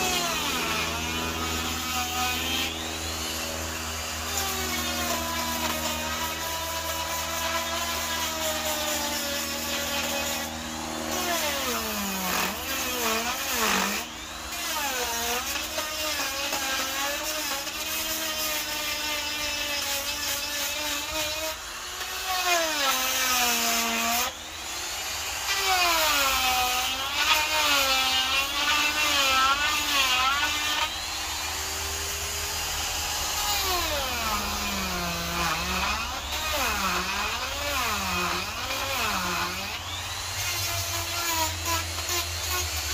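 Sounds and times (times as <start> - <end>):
die grinder carving wood: 0.0 - 42.9.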